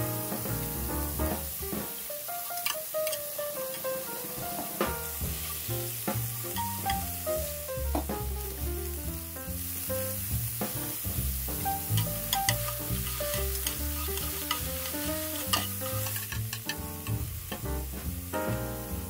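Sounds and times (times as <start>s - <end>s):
cabbage sizzling in a hot pan: 0.0s - 19.0s.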